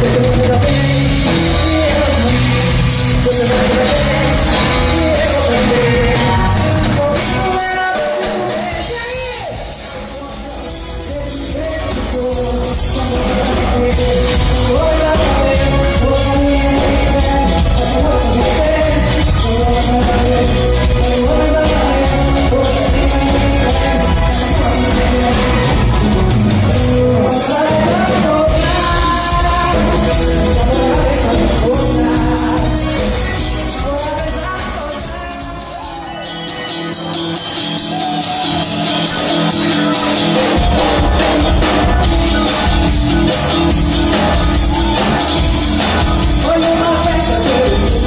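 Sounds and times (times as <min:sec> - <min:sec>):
band playing with singing: 0:00.0 - 0:48.0.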